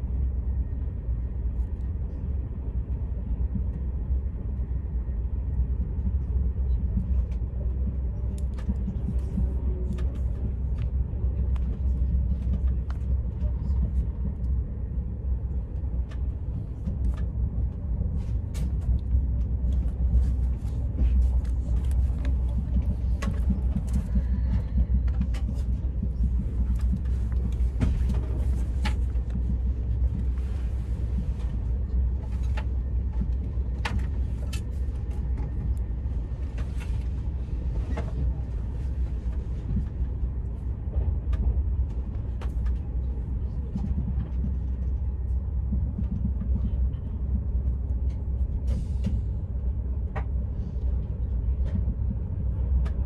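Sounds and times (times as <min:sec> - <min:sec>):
train cabin rumble: 0:00.0 - 0:53.0.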